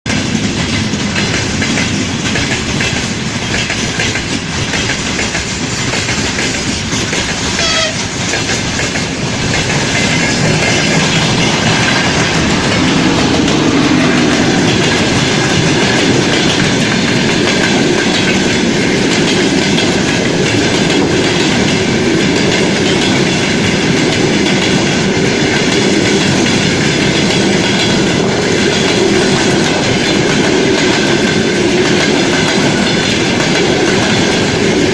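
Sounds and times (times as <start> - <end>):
train wheels clattering on rails: 0.0 - 34.9
diesel locomotive drone: 0.1 - 34.9.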